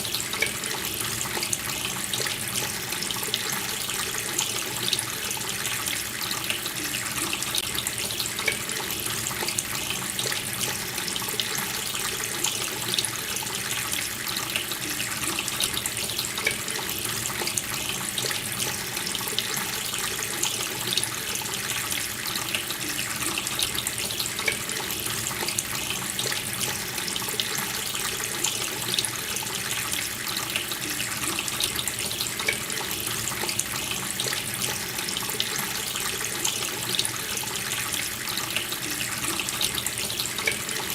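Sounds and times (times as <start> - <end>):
tap water running into sink: 0.0 - 40.9.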